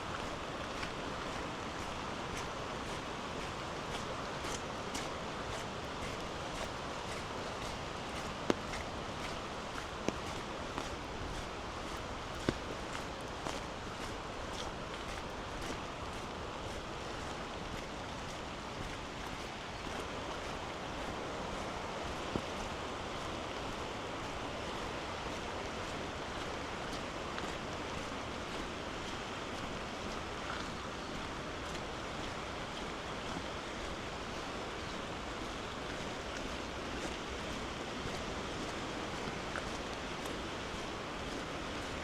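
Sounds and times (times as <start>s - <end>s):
flooded river rushing: 0.0s - 42.0s.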